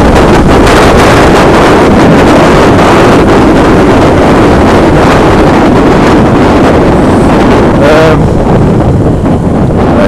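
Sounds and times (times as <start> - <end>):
wind buffeting helmet microphone: 0.0 - 10.0.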